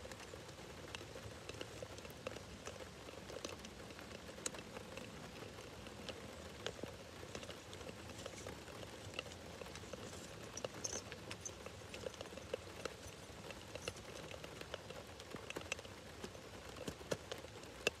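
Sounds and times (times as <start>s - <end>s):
pouring rain pattering: 0.0s - 18.0s.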